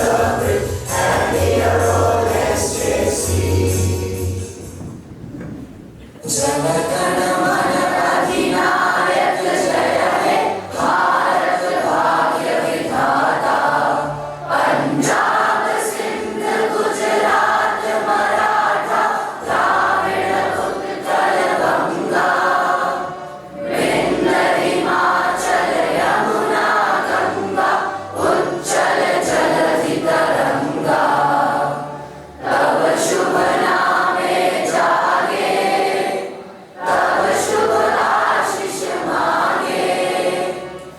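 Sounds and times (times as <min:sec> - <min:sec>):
choir singing: 0:00.0 - 0:04.6, 0:06.2 - 0:40.9.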